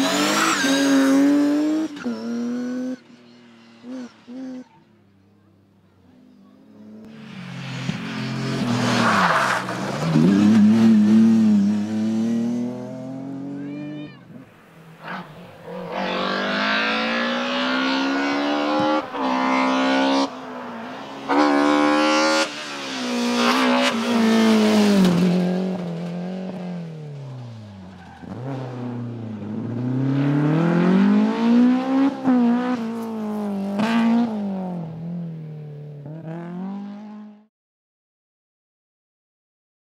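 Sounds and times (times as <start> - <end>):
rally car engines revving: 0.0 - 4.9, 6.3 - 14.3, 14.9 - 35.2, 36.0 - 37.5.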